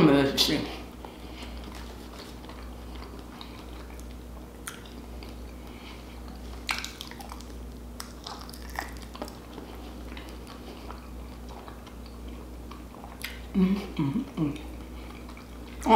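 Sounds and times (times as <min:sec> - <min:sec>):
chewing with wet mouth smacks: 0:01.0 - 0:15.9.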